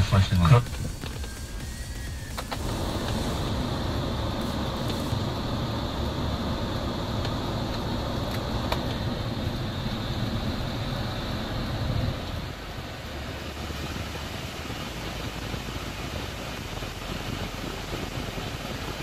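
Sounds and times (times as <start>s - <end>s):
air rushing through vents: 0.0s - 19.0s
engine idling hum: 0.0s - 19.0s.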